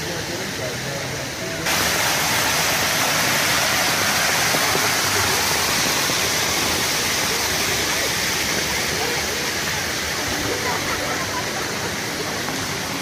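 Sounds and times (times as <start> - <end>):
water rushing over pavement: 0.0 - 13.0.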